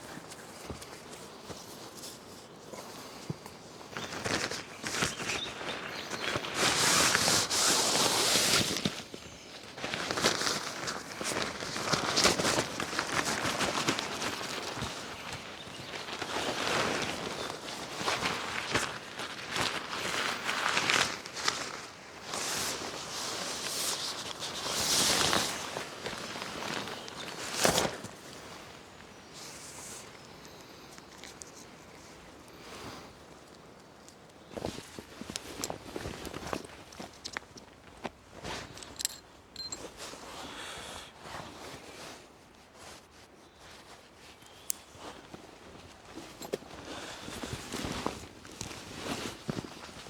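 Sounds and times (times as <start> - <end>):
footsteps outdoors: 0.0 - 40.3, 43.6 - 50.0
rustling crunching handling noise: 0.0 - 50.0.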